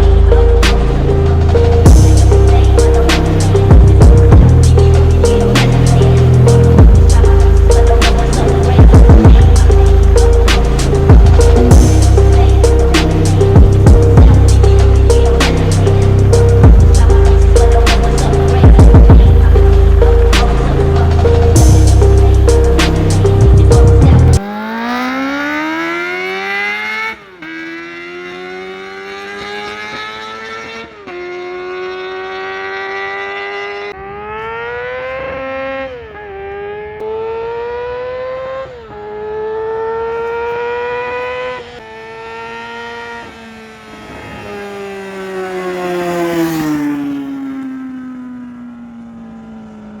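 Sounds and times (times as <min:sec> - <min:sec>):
motorcycle engine accelerating: 0:00.0 - 0:50.0.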